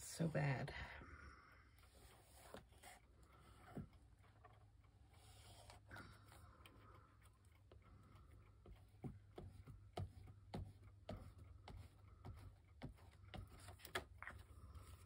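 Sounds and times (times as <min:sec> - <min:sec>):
faint sharp clicks and taps: 0:01.8 - 0:15.0.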